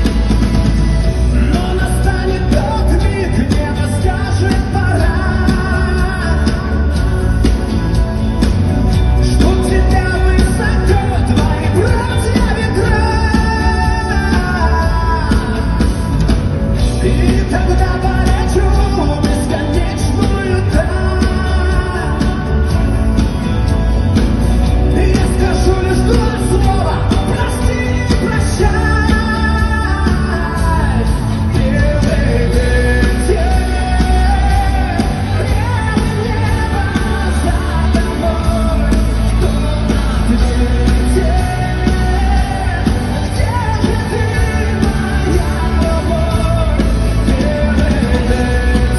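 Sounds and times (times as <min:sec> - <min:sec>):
person singing: 0:00.0 - 0:23.7, 0:24.6 - 0:48.9
live pop-rock band playing: 0:00.0 - 0:48.9.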